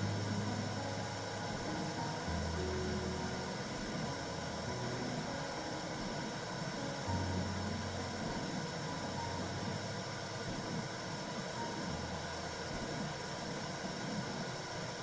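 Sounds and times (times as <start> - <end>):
low rushing womb noise: 0.0 - 15.0.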